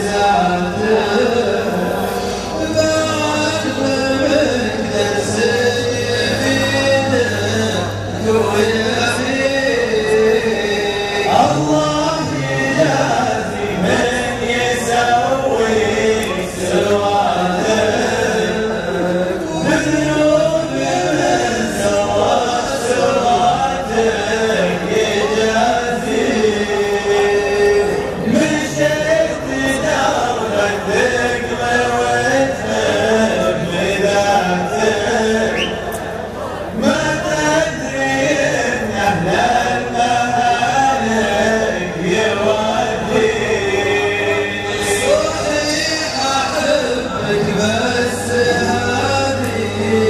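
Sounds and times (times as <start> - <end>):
man chanting: 0.0 - 35.9, 36.5 - 50.0
choir of voices: 0.0 - 50.0
male chorus singing a cappella: 0.0 - 50.0.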